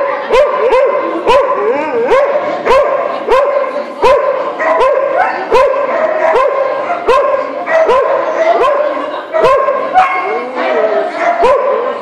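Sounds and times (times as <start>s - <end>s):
dog barking: 0.0s - 10.4s, 11.1s - 12.0s.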